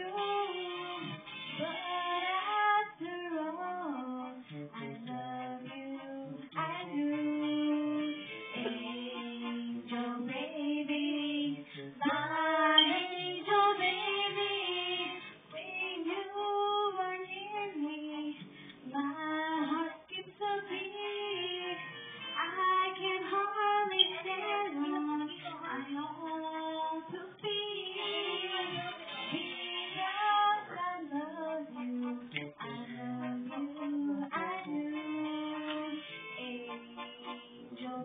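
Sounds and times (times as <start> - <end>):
woman singing into microphone: 0.0 - 38.0.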